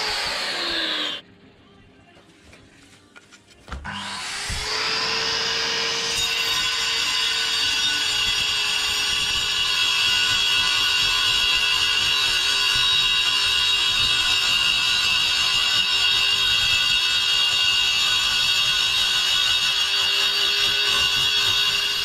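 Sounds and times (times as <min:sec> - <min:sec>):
angle grinder cutting concrete: 0:00.0 - 0:01.2, 0:03.9 - 0:22.0.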